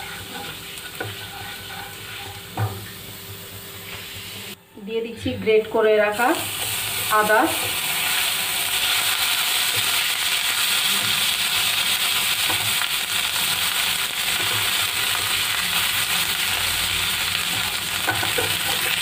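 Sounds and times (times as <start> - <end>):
spices sizzling in hot oil: 0.0 - 4.6, 6.1 - 19.0.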